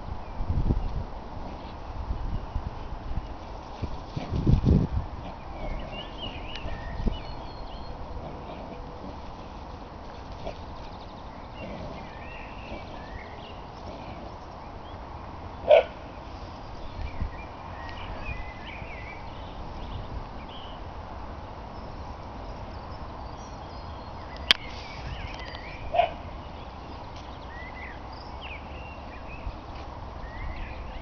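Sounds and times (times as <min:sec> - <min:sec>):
outdoor background noise: 0:00.0 - 0:31.0
small birds singing: 0:00.0 - 0:31.0.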